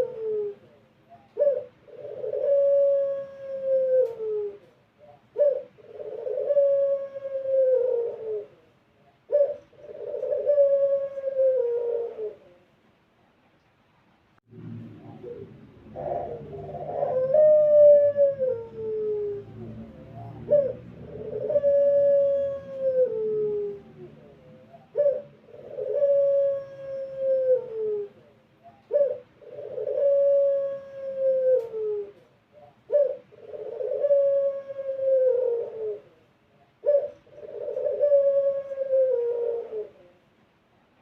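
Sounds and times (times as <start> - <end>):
dove cooing: 0.0 - 12.8, 14.8 - 40.3.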